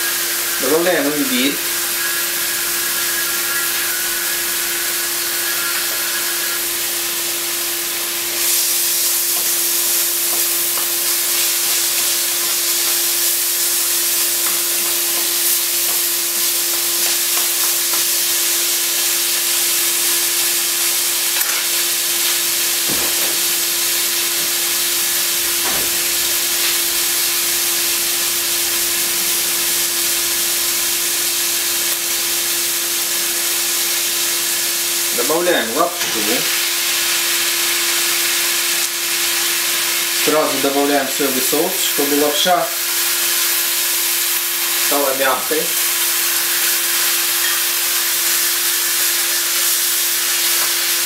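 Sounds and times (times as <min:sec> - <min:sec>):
food sizzling in a wok: 0:00.0 - 0:51.0.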